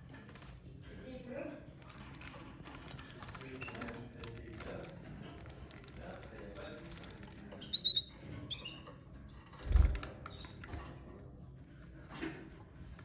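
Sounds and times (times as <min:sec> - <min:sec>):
cage bird chirping: 0:00.0 - 0:11.2.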